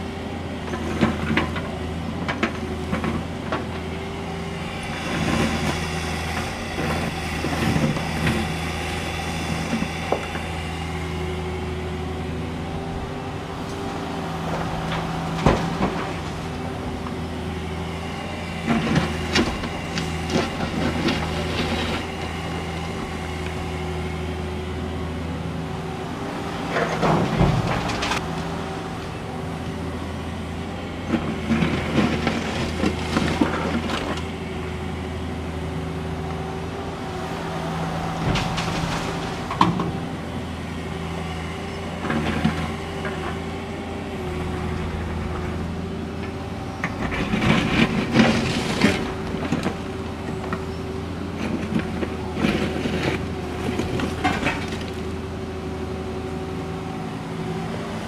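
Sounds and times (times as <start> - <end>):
excavator diesel engine running: 0.0 - 58.0
asphalt scraping and clattering: 0.6 - 11.2, 13.5 - 17.2, 18.0 - 23.6, 26.3 - 35.6, 36.2 - 55.2.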